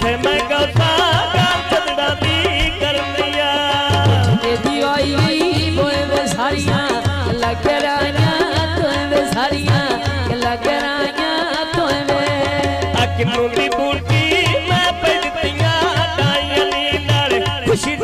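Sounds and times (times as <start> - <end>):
hand drum: 0.0 - 18.0
harmonium: 0.0 - 18.0
man singing: 0.0 - 18.0
woman singing into a microphone: 0.0 - 18.0.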